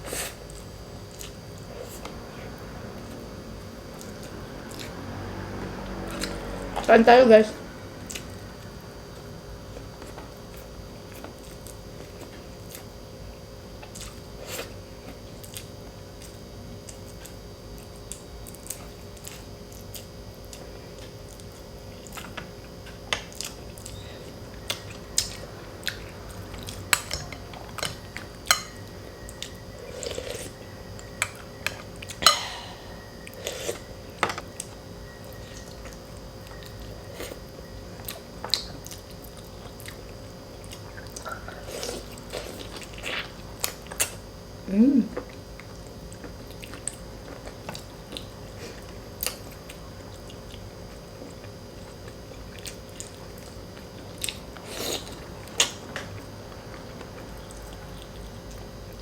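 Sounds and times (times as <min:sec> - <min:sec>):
person chewing food: 0:00.0 - 0:03.3, 0:08.0 - 0:13.0, 0:13.8 - 0:44.2, 0:45.2 - 0:59.0.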